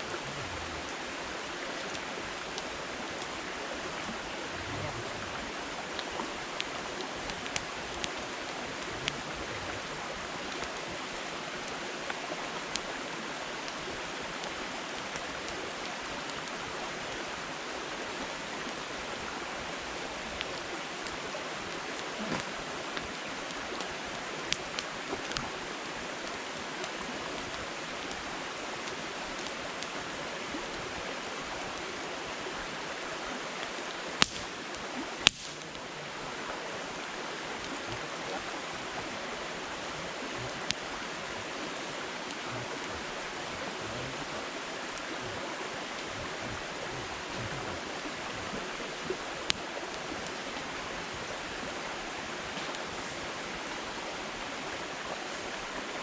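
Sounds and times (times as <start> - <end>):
campfire hissing: 0.0 - 56.0
crackling pops of burning wood: 0.7 - 17.4, 19.7 - 30.1, 33.6 - 36.5, 37.4 - 51.4, 52.4 - 53.8.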